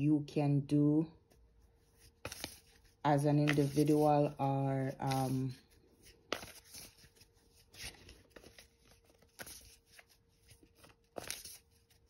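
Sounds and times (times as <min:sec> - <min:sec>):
cards shuffling: 0:01.9 - 0:12.0.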